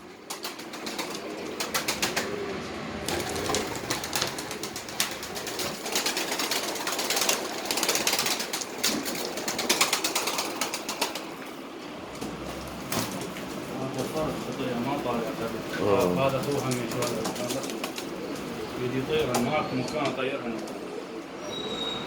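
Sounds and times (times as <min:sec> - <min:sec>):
wings flapping: 0:00.0 - 0:15.7, 0:16.3 - 0:20.9
pigeons cooing: 0:00.0 - 0:22.0.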